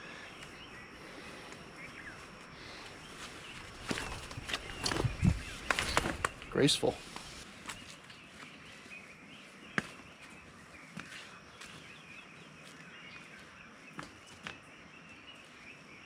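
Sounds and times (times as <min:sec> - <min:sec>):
forest ambience: 0:00.0 - 0:16.0
footsteps on forest trail: 0:00.3 - 0:14.6.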